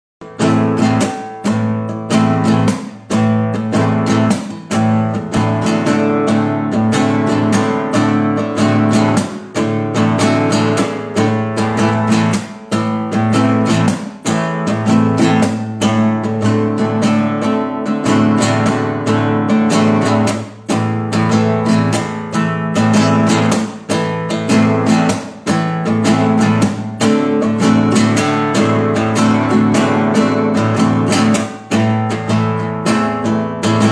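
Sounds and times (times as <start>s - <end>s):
acoustic guitar strumming chords: 0.2s - 33.9s.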